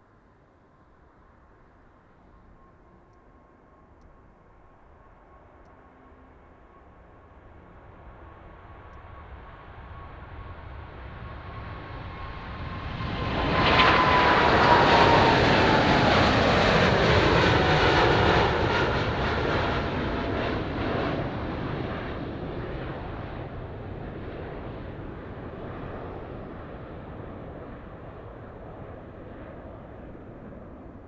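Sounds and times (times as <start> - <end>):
jet engine whine: 0.0 - 31.0
jet airplane passing: 5.4 - 31.0.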